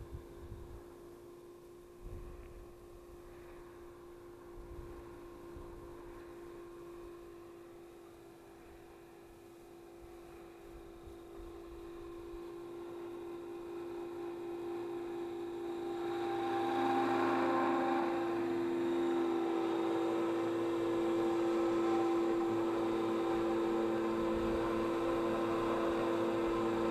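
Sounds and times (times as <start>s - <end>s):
rc helicopter motor and rotor whine: 2.0s - 26.9s.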